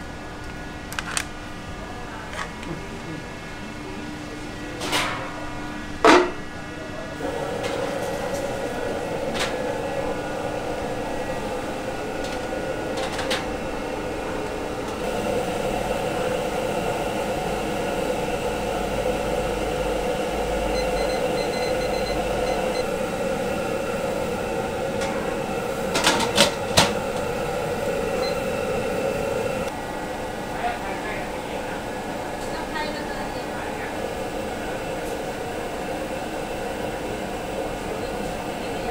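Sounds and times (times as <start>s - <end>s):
gas stove burner roaring: 0.0s - 38.9s.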